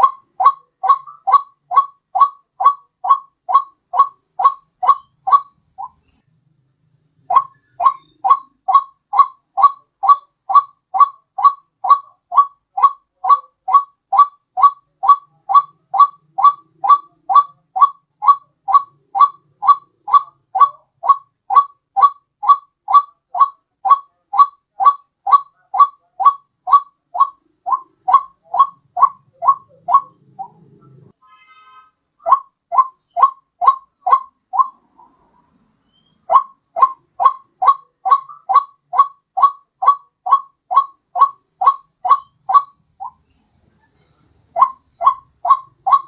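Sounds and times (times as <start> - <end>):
waterhen two-pitched call: 0.0 - 6.2, 7.3 - 30.5, 31.4 - 34.8, 35.9 - 43.2, 44.6 - 46.0.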